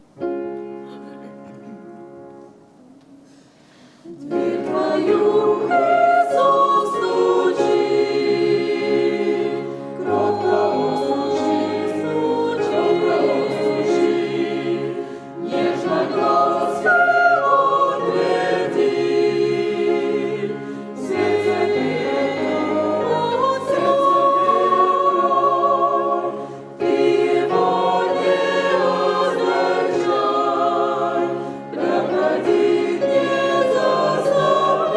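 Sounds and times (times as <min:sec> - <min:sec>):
choir singing a hymn: 0:04.0 - 0:34.9.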